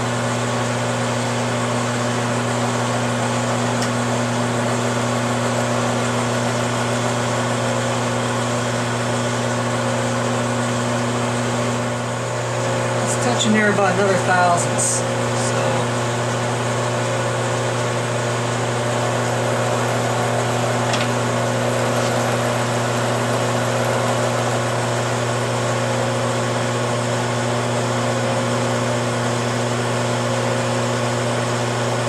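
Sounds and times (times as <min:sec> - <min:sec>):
lathe tool cutting copper: 0:00.0 - 0:27.9
metal lathe humming and whining: 0:00.0 - 0:32.0.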